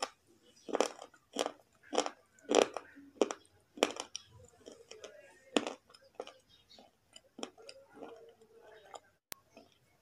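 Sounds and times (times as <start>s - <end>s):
brittle crunches of chewing: 0.0s - 9.8s
mouth chewing sounds: 0.0s - 10.0s.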